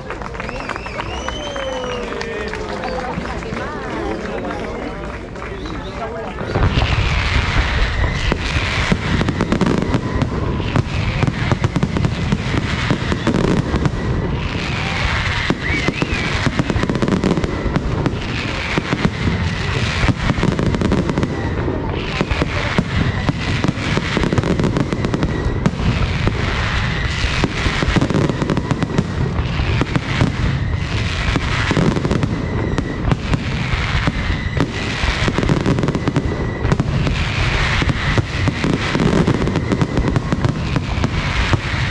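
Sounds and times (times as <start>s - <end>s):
fireworks bangs and crackling: 0.0s - 41.9s
fireworks whistles: 0.0s - 41.9s.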